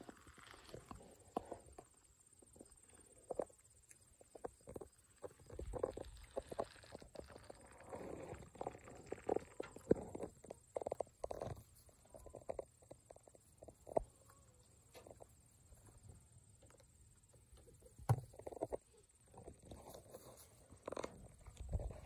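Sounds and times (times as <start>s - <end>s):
rabbits chewing grass: 0.0s - 22.0s.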